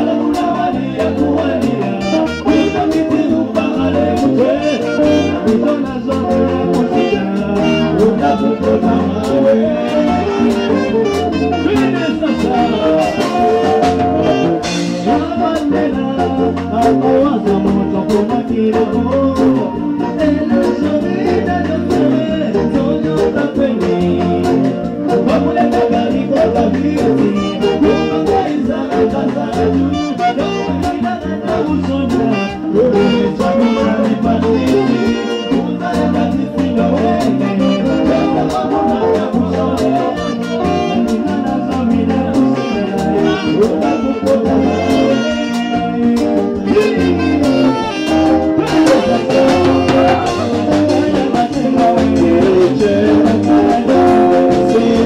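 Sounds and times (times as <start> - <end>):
bass guitar: 0.0 - 55.0
drum kit: 0.0 - 55.0
man singing into a microphone: 0.0 - 55.0
saxophone: 0.0 - 55.0
trumpet: 0.0 - 55.0.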